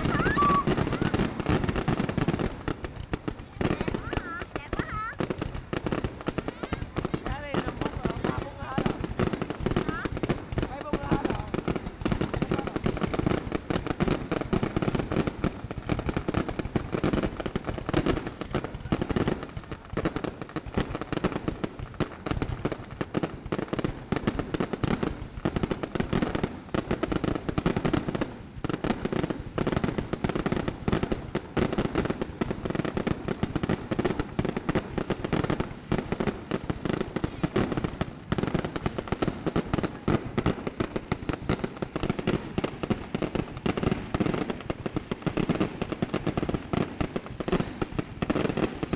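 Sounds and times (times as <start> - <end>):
fireworks popping and crackling: 0.0 - 48.9.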